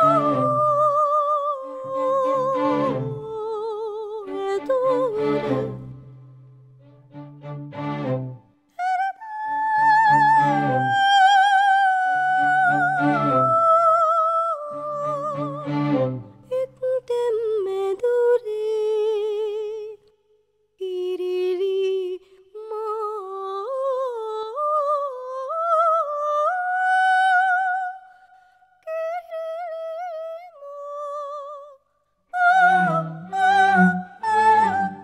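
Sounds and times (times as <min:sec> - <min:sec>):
operatic soprano singing: 0:00.0 - 0:06.1, 0:08.7 - 0:20.0, 0:20.8 - 0:28.2, 0:28.8 - 0:35.0.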